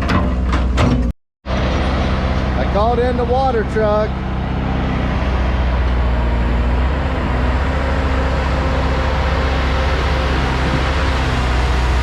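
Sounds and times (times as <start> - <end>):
bulldozer diesel engine droning: 1.4 - 12.0.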